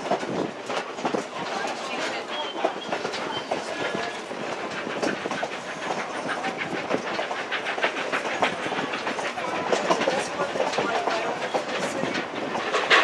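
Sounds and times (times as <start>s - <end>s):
train wheels clicking over rail joints: 0.0s - 13.0s.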